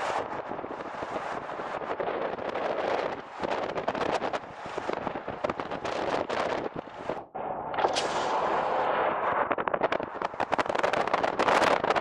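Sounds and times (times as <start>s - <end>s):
car road noise: 0.0s - 12.0s
wind buffeting microphone: 0.0s - 12.0s.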